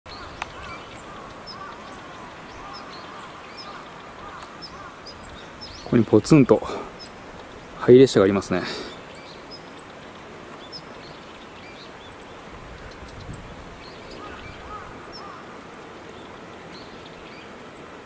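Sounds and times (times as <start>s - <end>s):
short arching bird calls: 0.1s - 17.9s
birds chirping: 0.1s - 18.0s
outdoor background hiss: 0.1s - 18.0s.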